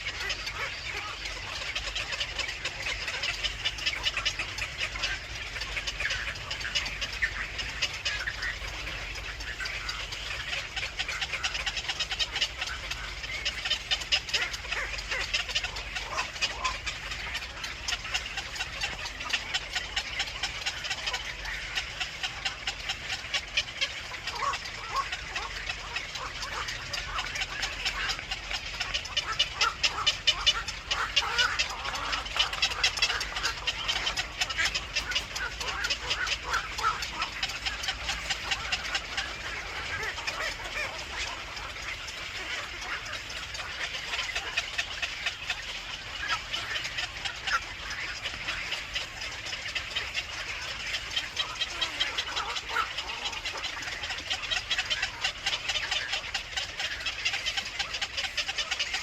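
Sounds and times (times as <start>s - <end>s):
small birds chirping rapidly: 0.0s - 59.0s.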